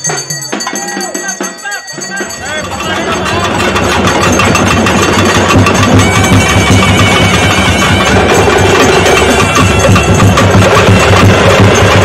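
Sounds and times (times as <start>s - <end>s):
drums beaten rapidly: 0.0s - 12.0s.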